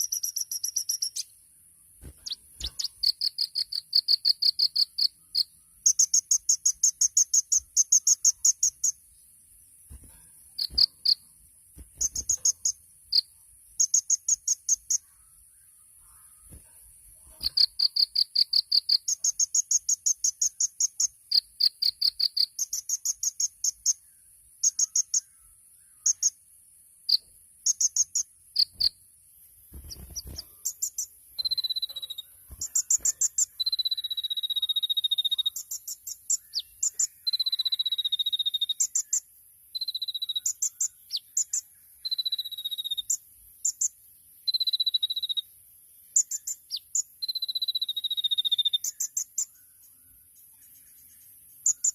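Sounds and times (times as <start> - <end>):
sunbird singing trills: 0.0 - 16.6, 17.3 - 29.0, 29.7 - 51.9.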